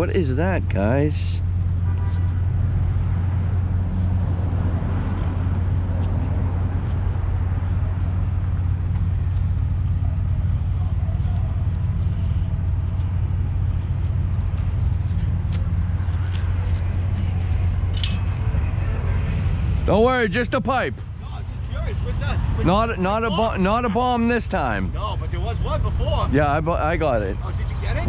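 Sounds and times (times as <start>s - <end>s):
motor vehicle drone: 0.0s - 28.0s.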